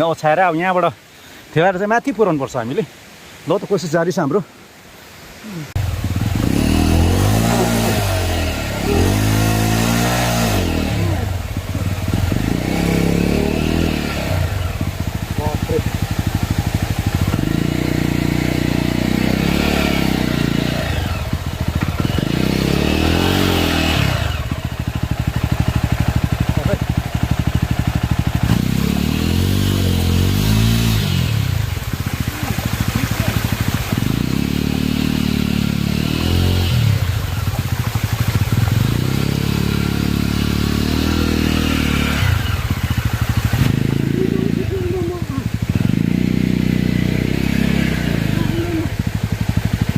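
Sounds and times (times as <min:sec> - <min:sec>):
motorcycle engine revving: 0:05.8 - 0:49.9.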